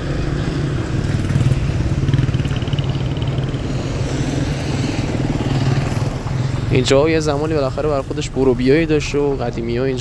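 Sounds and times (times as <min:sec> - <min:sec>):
street traffic: 0:00.0 - 0:10.0
vehicle engine running: 0:00.0 - 0:10.0.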